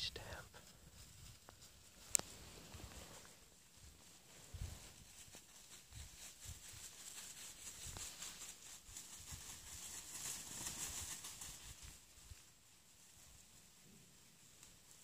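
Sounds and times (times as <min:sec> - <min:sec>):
rustling in dry leaves: 0:00.0 - 0:15.0.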